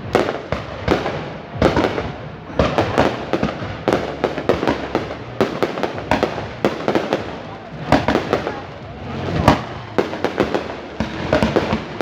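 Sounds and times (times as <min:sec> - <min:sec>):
firework shells bursting: 0:00.0 - 0:12.0
fireworks crackling: 0:00.0 - 0:12.0.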